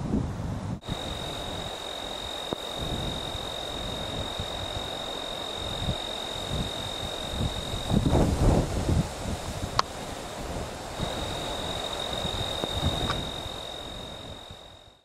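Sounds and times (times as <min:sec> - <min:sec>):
wind buffeting microphone: 0:00.0 - 0:15.0
insect trill: 0:00.8 - 0:09.8, 0:10.8 - 0:15.0.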